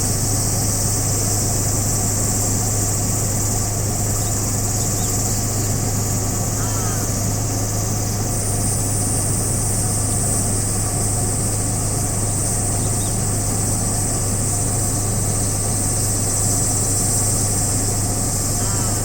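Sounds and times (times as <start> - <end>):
high-pitched buzzing drone: 0.0 - 19.0
low engine-like hum: 0.0 - 19.0.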